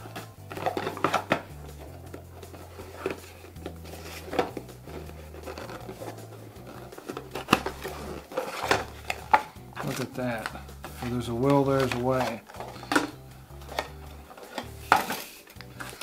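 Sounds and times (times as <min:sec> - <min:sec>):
soft background music: 0:00.0 - 0:16.0
cardboard box being opened: 0:00.4 - 0:16.0.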